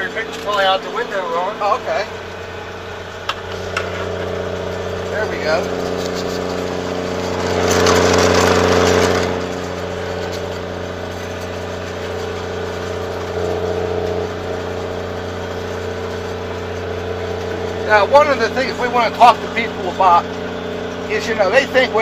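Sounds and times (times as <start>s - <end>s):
rushing swell: 0.0s - 21.3s
grooming machine engine running: 0.0s - 22.0s.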